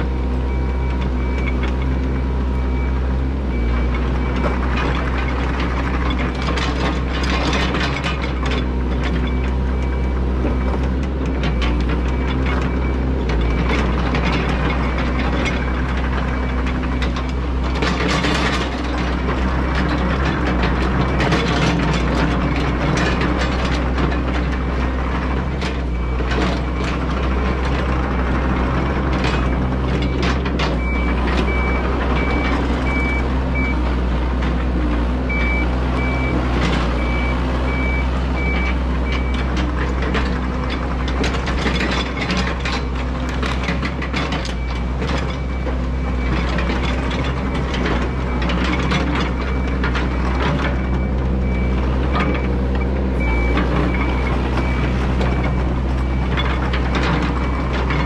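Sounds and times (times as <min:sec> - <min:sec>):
excavator diesel engine running: 0:00.0 - 0:58.0
track clanks and knocks: 0:00.0 - 0:58.0.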